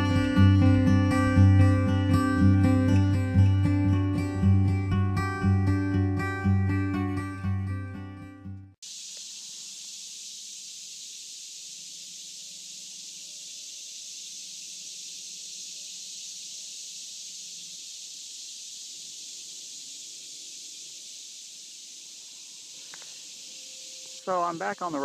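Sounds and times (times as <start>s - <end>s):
insect chorus: 0.0s - 5.4s, 8.8s - 25.0s.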